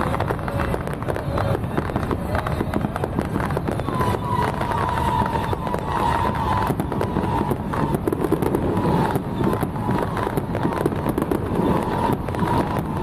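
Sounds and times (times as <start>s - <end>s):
firecrackers crackling and popping: 0.0s - 13.0s
steady high whistle tone: 0.0s - 13.0s.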